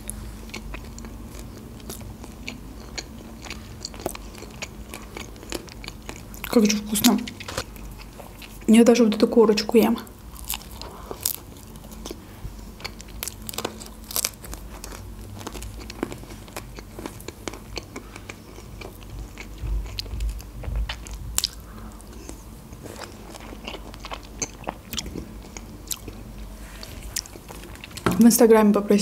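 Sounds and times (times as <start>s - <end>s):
pizza being bitten and chewed: 0.0s - 8.7s, 10.2s - 28.0s.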